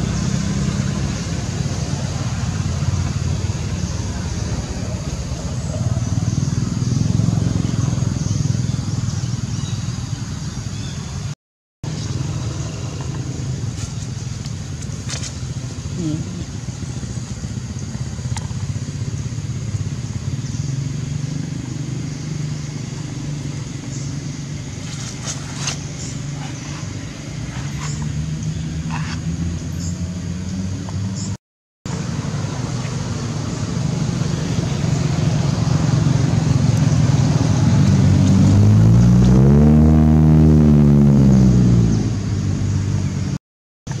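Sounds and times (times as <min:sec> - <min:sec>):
vehicle engine running: 0:00.0 - 0:11.0, 0:11.8 - 0:31.3, 0:31.9 - 0:44.0.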